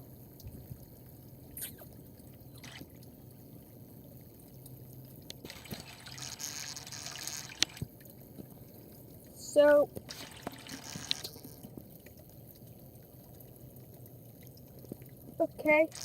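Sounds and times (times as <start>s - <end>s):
trickling water in a pond: 0.0s - 16.0s.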